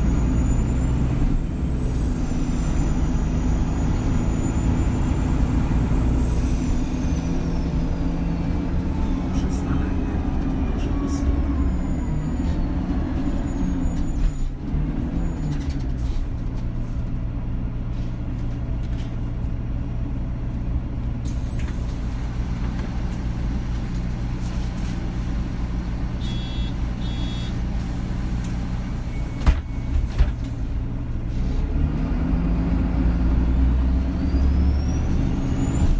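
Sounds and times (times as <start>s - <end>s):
bus engine and road rumble: 0.0s - 35.9s.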